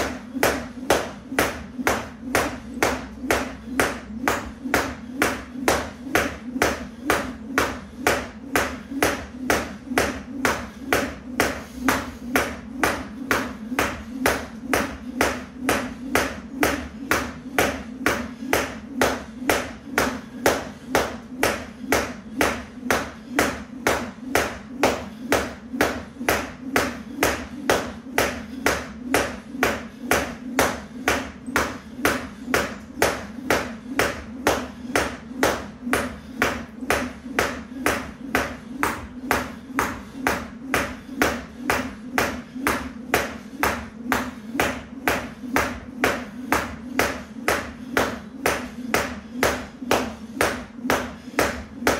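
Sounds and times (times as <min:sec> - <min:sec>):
jump rope slapping floor mat: 0:00.0 - 0:51.9.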